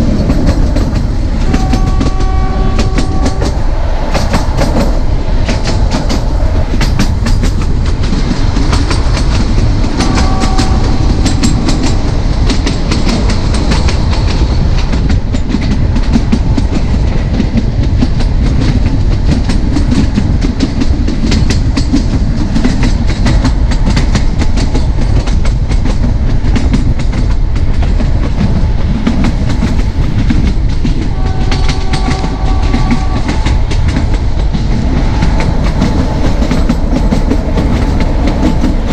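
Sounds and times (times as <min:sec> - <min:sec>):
train coaches rumbling: 0:00.0 - 0:38.9.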